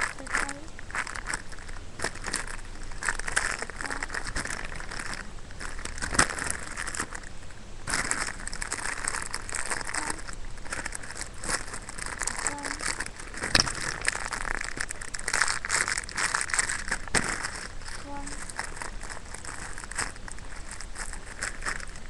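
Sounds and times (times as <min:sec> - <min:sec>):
squishy toys crinkling and rustling: 0:00.0 - 0:22.0.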